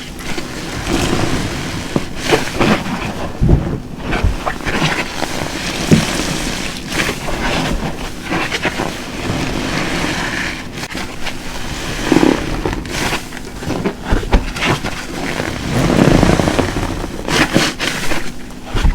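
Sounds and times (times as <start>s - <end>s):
wet sponge squelching: 0.0s - 18.9s.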